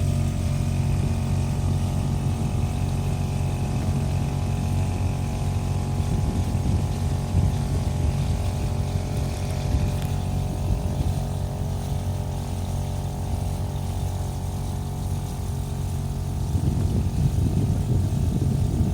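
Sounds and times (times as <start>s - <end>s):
boat engine running steadily: 0.0s - 18.9s.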